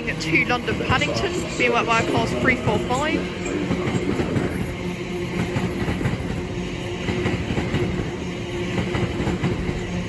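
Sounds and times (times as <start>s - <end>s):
electric train hum: 0.0s - 10.0s
train rumbling on track: 0.0s - 10.0s.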